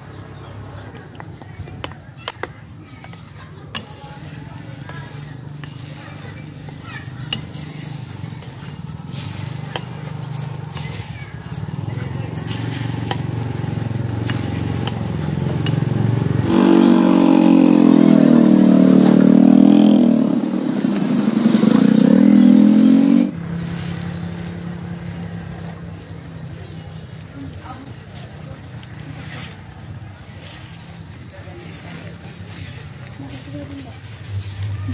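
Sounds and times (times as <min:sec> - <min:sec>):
motorcycle engine revving: 0:03.0 - 0:34.9.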